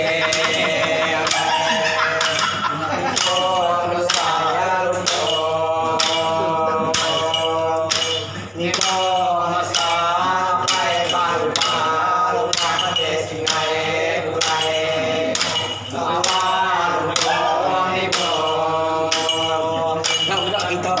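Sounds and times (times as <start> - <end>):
men singing a slow chant: 0.0 - 21.0
rhythmic jingling strokes: 0.0 - 21.0.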